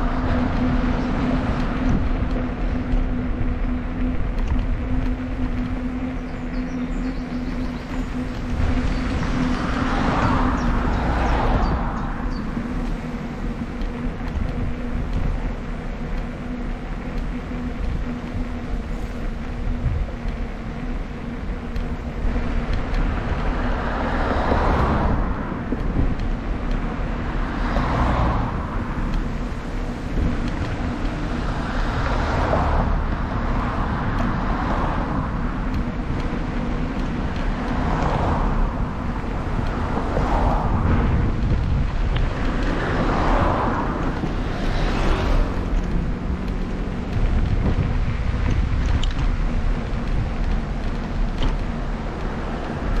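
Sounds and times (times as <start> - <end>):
passing cars: 0.0 - 53.0
steady low rumble: 0.0 - 53.0
wind buffeting microphone: 0.0 - 53.0.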